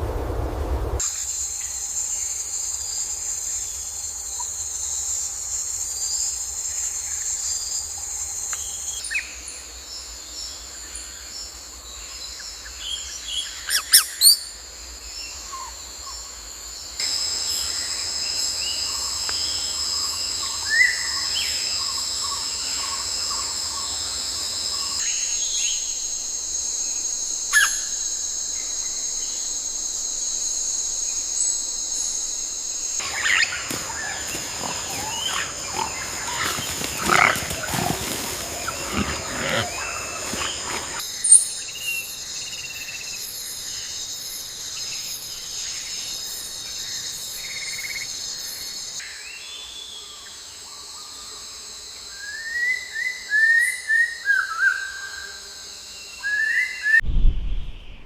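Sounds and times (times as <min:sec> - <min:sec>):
high-pitched insect chorus: 0:01.0 - 0:57.4.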